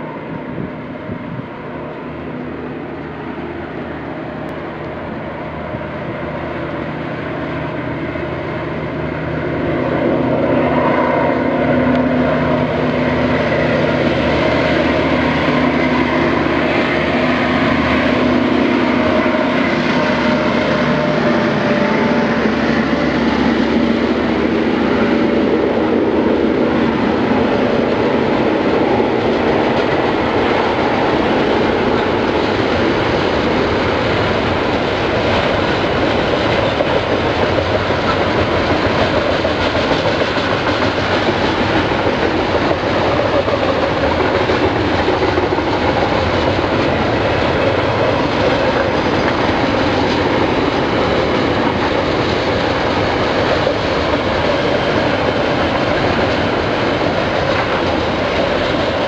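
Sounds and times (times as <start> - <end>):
train wheels clattering on rails: 8.6 - 59.0.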